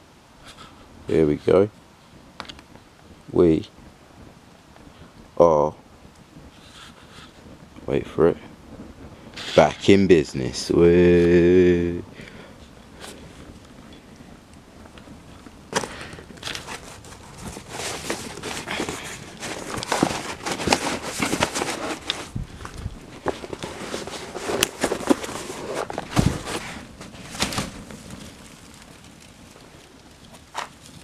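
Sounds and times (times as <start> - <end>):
cardboard fire crackling: 0.0 - 31.0.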